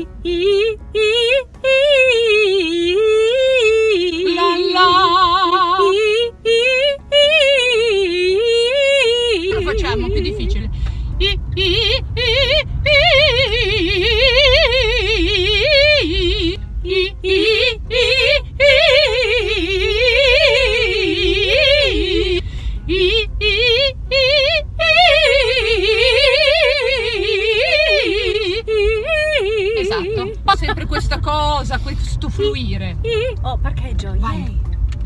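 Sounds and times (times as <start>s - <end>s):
low car cabin hum: 0.0s - 35.0s.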